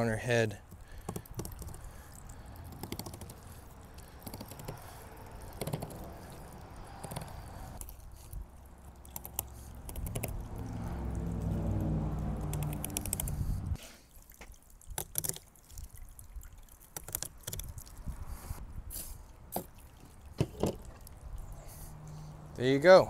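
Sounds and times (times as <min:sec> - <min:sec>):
water dripping: 0:00.6 - 0:13.3, 0:14.0 - 0:18.2, 0:19.2 - 0:22.2.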